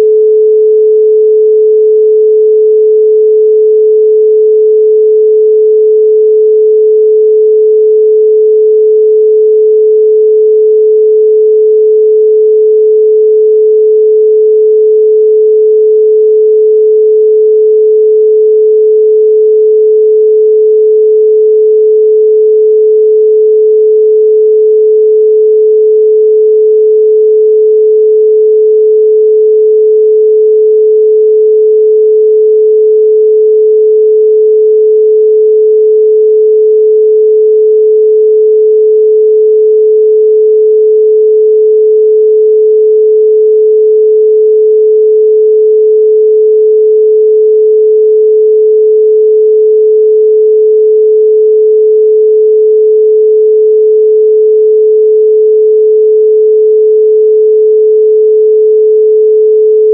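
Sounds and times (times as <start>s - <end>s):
steady pure sine tone: 0.0s - 59.9s.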